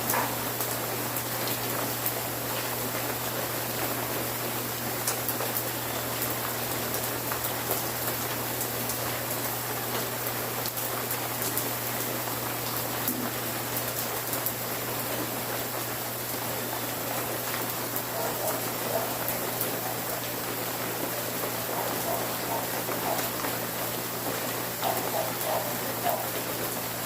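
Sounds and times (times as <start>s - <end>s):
rain drops on hard surface: 0.0s - 27.0s.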